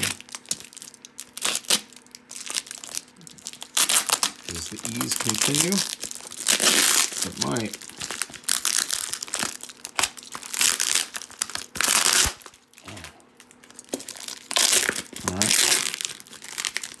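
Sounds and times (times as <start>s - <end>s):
paper crinkling and ripping: 0.0s - 17.0s.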